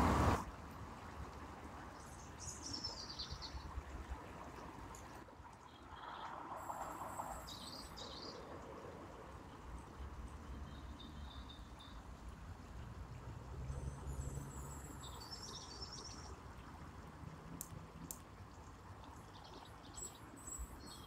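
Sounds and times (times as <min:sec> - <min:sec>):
faint outdoor background noise: 0:00.0 - 0:21.0.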